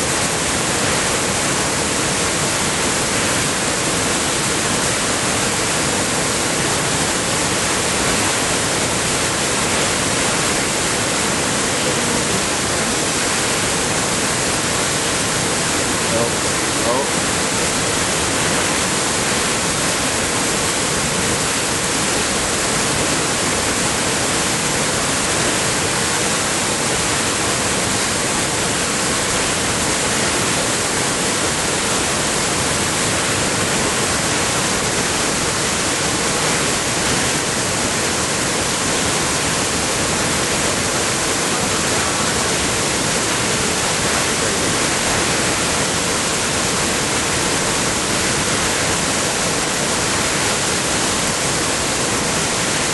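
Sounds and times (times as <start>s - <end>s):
creek water rushing over rocks: 0.0s - 52.9s.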